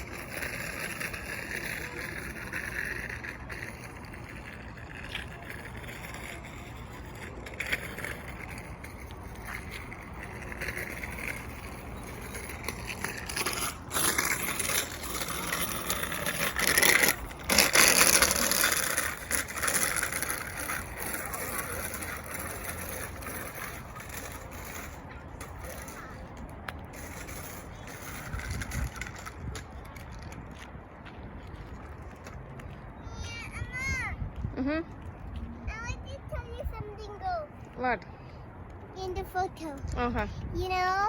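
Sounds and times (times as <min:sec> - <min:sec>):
wheels rattling over rough path: 0:00.0 - 0:34.2.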